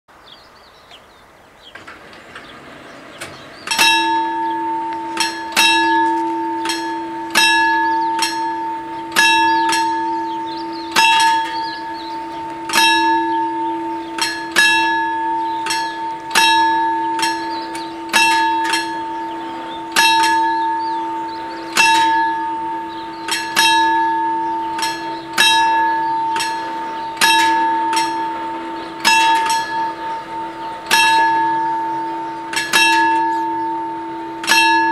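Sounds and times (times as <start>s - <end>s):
level crossing bells clanging: 1.8s - 34.9s.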